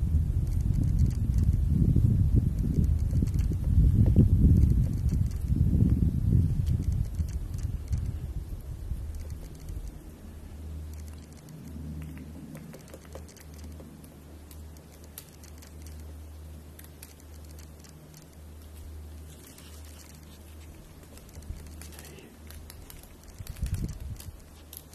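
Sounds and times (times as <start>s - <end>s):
low hum: 0.0s - 24.9s
woodpecker tapping on bark: 0.4s - 1.7s, 2.4s - 6.0s, 6.6s - 10.0s, 10.8s - 24.9s.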